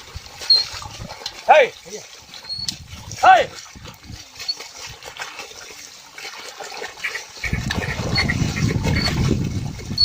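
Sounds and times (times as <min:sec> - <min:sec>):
muddy water splashing: 0:00.0 - 0:10.0.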